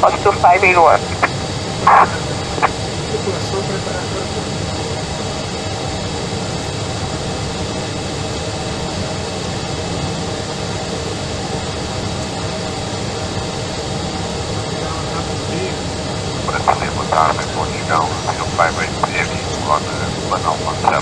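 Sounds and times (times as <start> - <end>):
airliner engine and airflow drone: 0.0 - 21.0
faint steady tones: 0.0 - 21.0.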